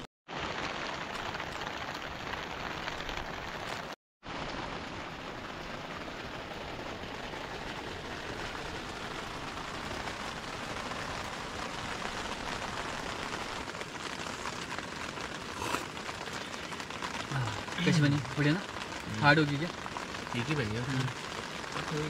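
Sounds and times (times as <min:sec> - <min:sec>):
rain drumming on a tent: 0:00.0 - 0:22.0.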